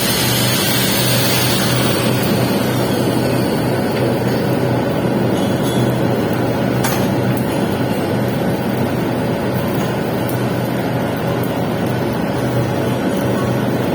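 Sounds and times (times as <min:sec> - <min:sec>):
electrical hum: 0:00.0 - 0:13.9
welding arc running: 0:00.0 - 0:13.9.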